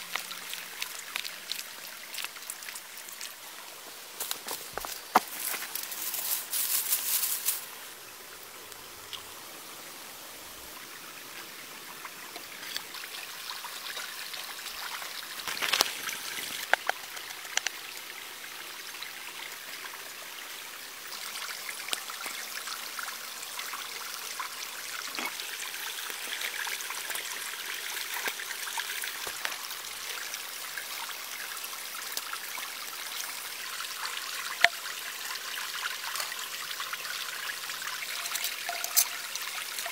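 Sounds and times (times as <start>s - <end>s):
water trickling: 0.0s - 9.9s, 10.5s - 39.9s.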